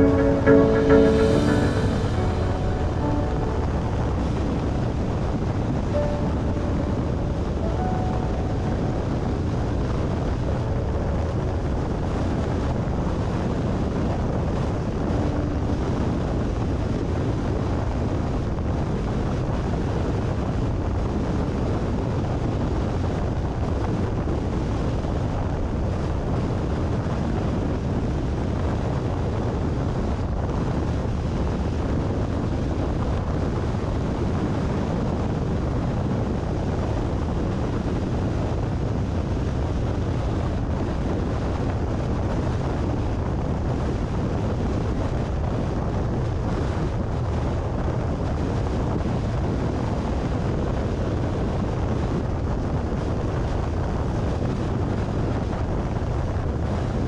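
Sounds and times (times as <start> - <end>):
wind buffeting microphone: 8.3 - 57.0
car wind and tyre rumble: 9.0 - 57.0.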